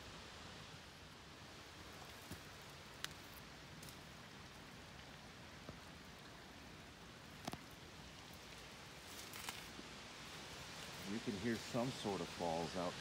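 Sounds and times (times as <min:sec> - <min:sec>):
falling water hiss: 0:00.0 - 0:13.0.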